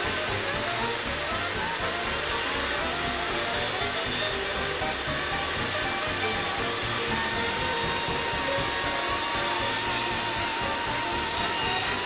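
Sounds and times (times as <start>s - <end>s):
band sawmill sawing through log: 0.0s - 12.0s.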